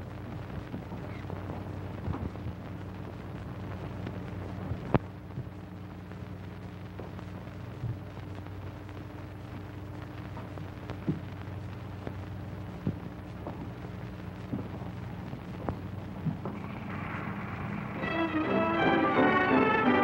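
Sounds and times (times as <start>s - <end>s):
film soundtrack hum and hiss: 0.0s - 20.0s.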